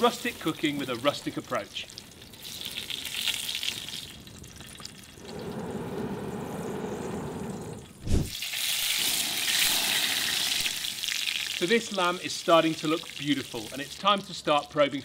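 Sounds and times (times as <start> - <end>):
basting liquid sizzling on fire: 0.0 - 15.0.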